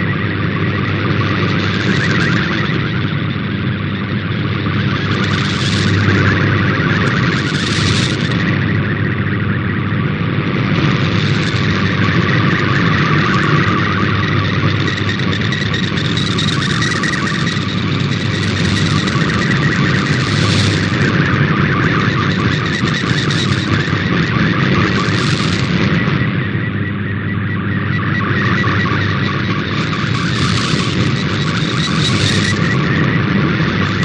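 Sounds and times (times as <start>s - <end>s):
radio static hiss: 0.0s - 34.0s
warbling data signal: 0.0s - 34.0s.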